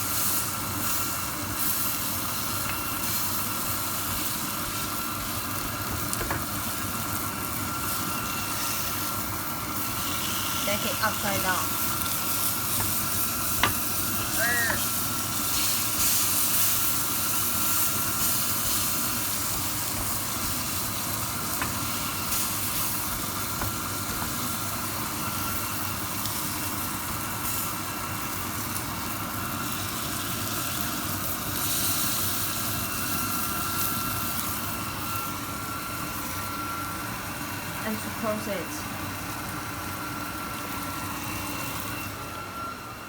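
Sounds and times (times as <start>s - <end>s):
meat sizzling in a frying pan: 0.0s - 43.0s
mechanical hum: 0.0s - 43.0s.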